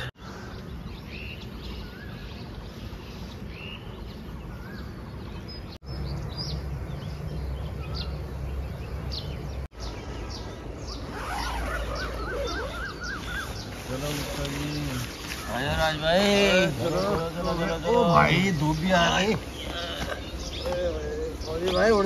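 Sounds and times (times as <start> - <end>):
birds chirping and whistling: 0.0 - 22.0
downward-sweeping bird calls: 0.0 - 22.0
outdoor background noise: 0.0 - 22.0.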